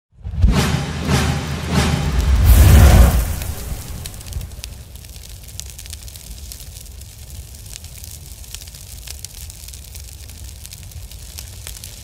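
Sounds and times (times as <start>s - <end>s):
fire crackling and rumbling: 0.2s - 12.0s.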